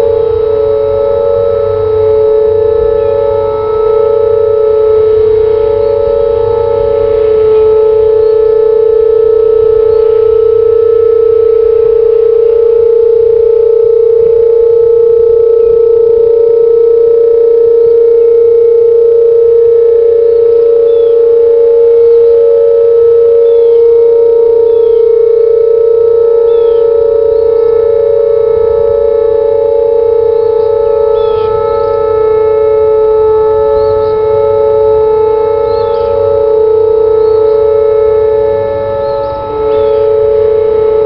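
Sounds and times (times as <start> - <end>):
tornado sirens steady tone: 0.0 - 41.0.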